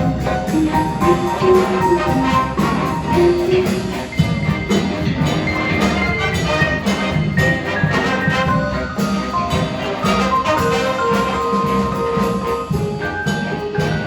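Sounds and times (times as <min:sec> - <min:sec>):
bass: 0:00.0 - 0:14.0
horn melody: 0:00.0 - 0:14.0
steady drums: 0:00.0 - 0:14.0.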